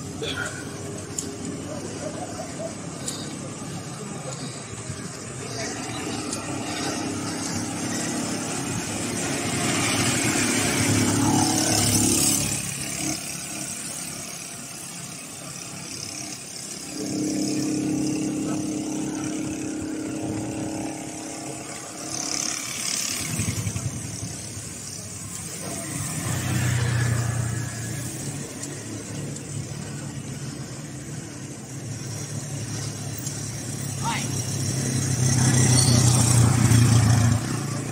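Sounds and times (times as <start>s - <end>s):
cars and motorcycles passing: 0.0s - 37.9s.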